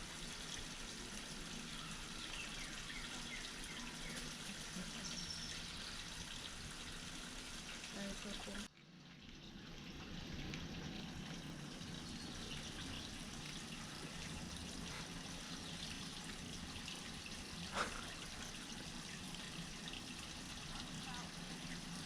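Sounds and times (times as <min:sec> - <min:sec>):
trickling water: 0:00.0 - 0:22.0.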